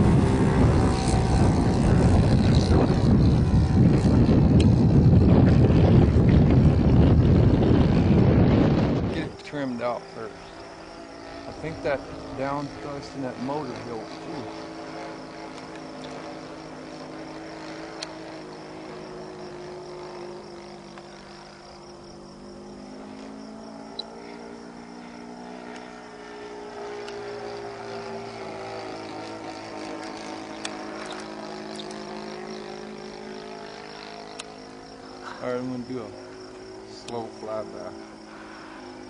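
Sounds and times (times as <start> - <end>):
model plane engine droning overhead: 0.0 - 39.0.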